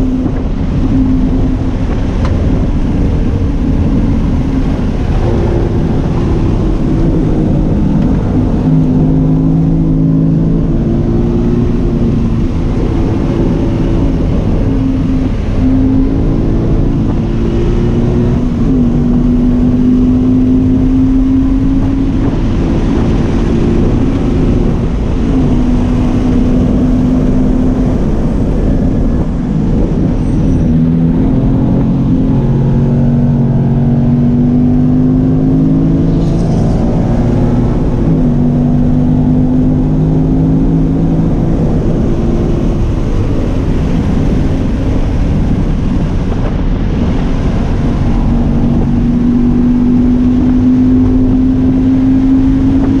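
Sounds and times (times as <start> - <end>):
sports car engine accelerating: 0.0 - 53.0
tyre and road noise: 0.0 - 53.0.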